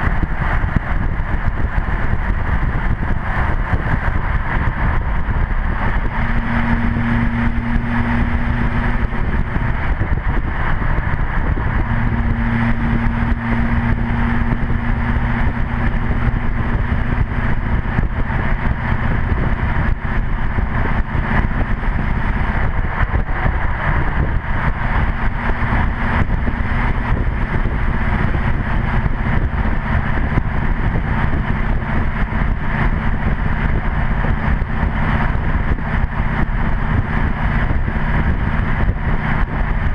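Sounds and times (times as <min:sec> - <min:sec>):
loud diesel truck exhaust: 0:00.0 - 0:39.9
low droning tone: 0:00.0 - 0:39.9.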